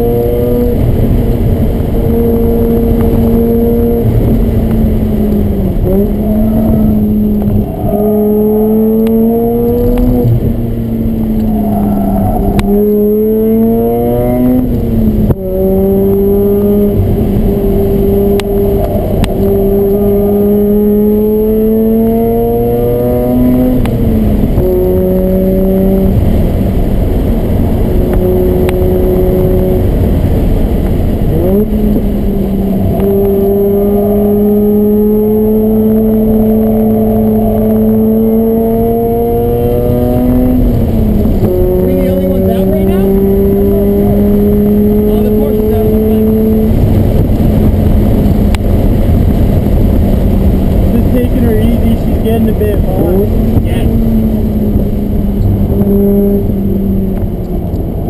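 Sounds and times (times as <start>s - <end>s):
rotary engine driven hard: 0.0s - 58.0s.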